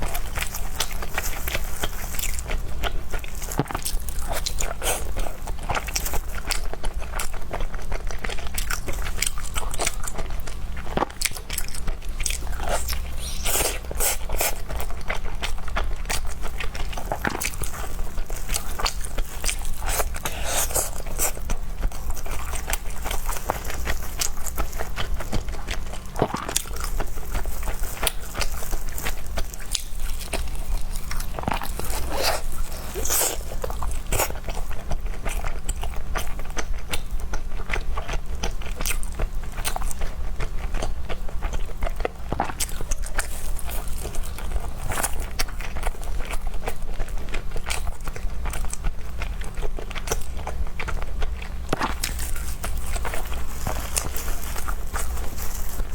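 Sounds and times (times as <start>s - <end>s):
person biting and chewing food: 0.0s - 37.0s, 47.6s - 55.9s
steady low hum: 0.0s - 55.9s.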